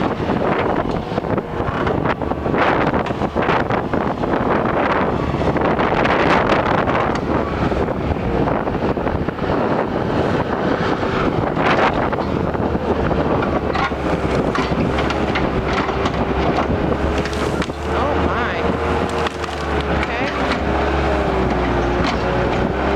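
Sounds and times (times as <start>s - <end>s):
skid steer engine running: 0.0s - 22.9s
wind buffeting microphone: 0.0s - 22.9s.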